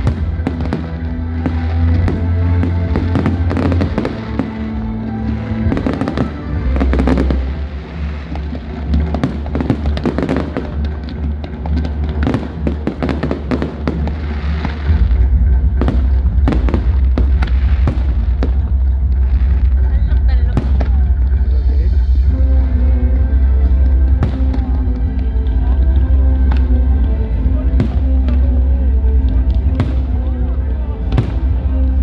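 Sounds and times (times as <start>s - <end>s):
fireworks bangs and crackles: 0.0s - 21.8s, 22.6s - 32.0s
loud music with heavy bass: 0.0s - 32.0s.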